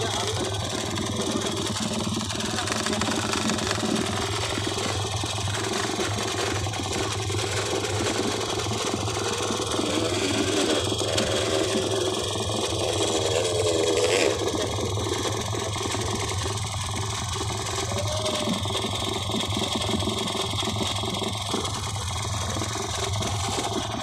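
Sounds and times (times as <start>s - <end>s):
small motorcycle engine idling: 0.0s - 24.0s.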